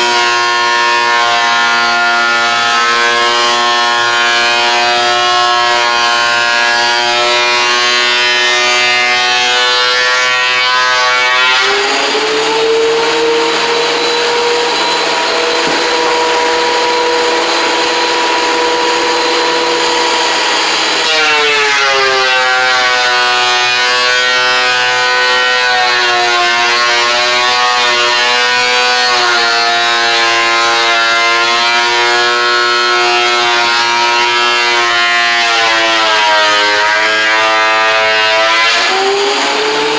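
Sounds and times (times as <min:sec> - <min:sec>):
woodworking machine motor: 0:00.0 - 0:39.9.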